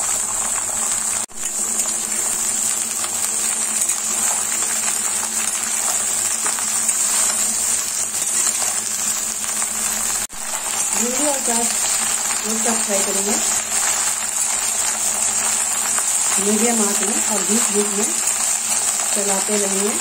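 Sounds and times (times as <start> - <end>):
spatula turning vegetables: 0.0 - 20.0
vegetables sizzling in oil: 0.0 - 20.0.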